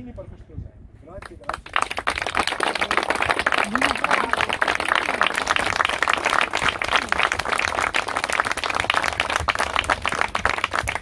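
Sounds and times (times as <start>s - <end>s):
crowd applauding: 1.5s - 11.0s.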